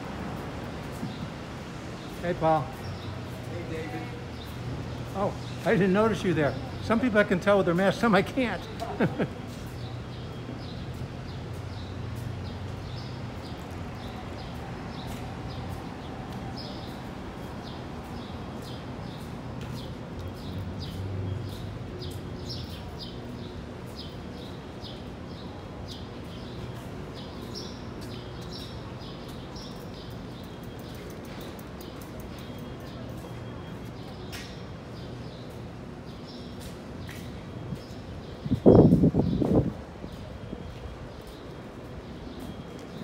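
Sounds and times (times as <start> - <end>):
small birds chirping: 0.3 - 43.0.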